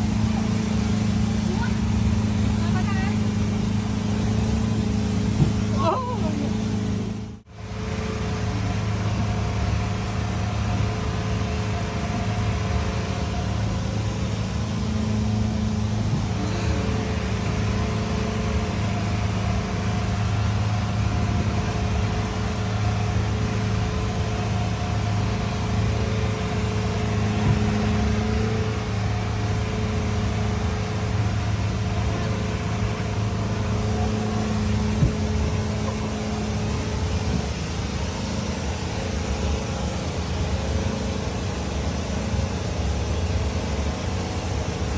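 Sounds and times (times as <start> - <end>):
boat engine running: 0.0 - 44.9
water wash: 0.0 - 44.9.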